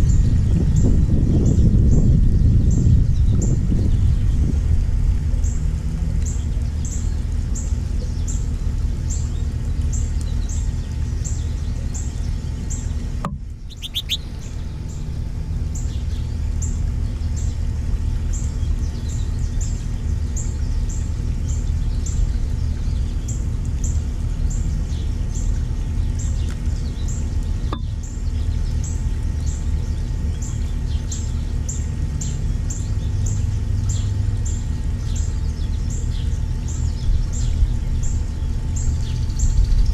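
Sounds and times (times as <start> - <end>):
small songbirds chirping: 0.0 - 39.9
steady low rumble: 0.0 - 39.9.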